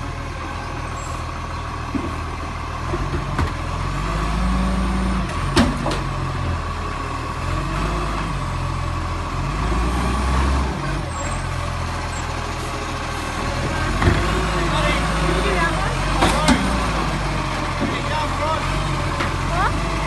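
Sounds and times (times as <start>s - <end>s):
truck engine and hydraulics: 0.0s - 20.0s.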